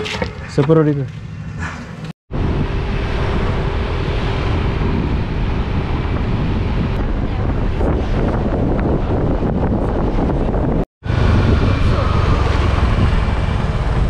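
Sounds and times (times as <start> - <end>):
wind buffeting microphone: 2.3 - 14.0.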